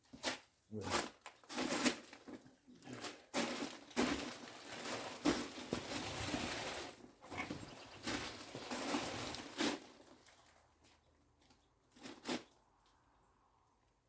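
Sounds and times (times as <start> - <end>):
rustling and scraping: 0.0 - 13.1.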